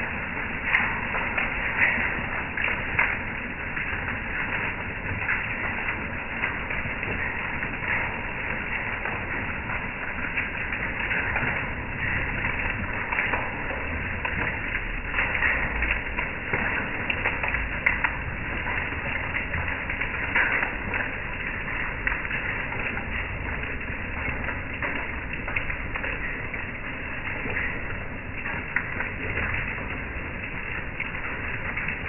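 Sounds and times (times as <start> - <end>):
hailstones ticking: 0.0 - 32.0
heavy rain on wooden deck: 0.0 - 32.0.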